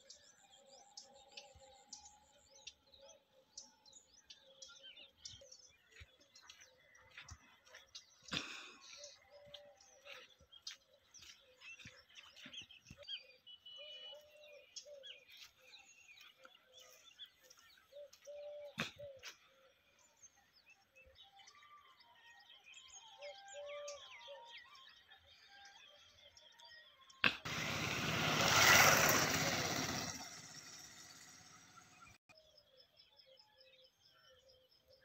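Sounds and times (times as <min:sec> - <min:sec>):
birds chirping and trilling: 0:00.0 - 0:35.0.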